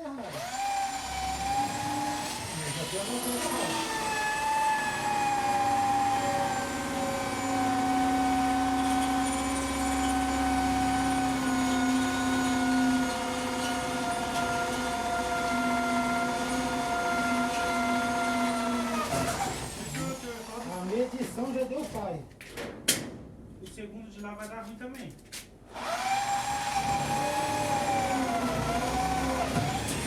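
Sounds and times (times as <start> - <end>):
electric drill drilling: 0.2 - 21.0, 25.7 - 30.0.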